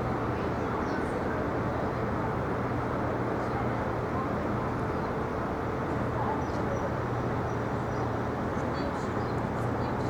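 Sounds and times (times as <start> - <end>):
traffic rumble and hum: 0.0 - 10.0.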